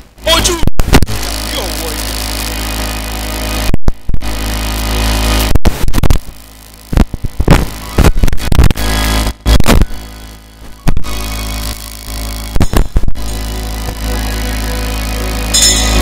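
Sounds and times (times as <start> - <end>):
loud distorted music: 0.0 - 16.0.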